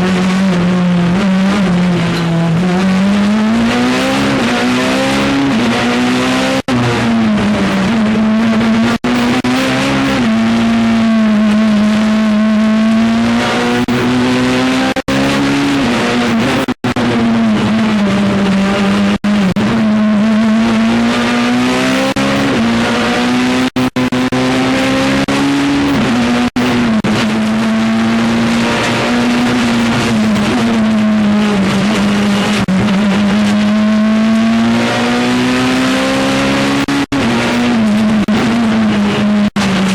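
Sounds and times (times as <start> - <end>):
rally car engine revving: 0.0 - 39.9.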